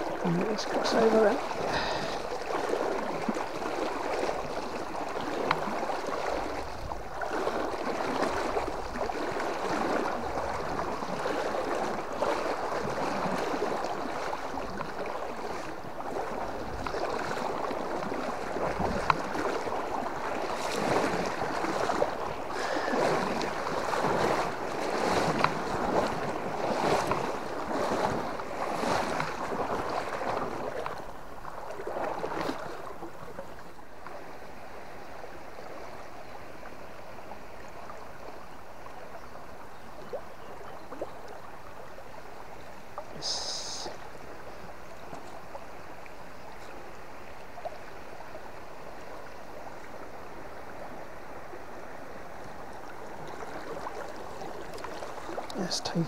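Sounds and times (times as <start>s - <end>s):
water splashing around wading legs: 0.0s - 34.8s, 37.5s - 56.0s
river current rushing: 0.0s - 40.2s, 40.8s - 56.0s.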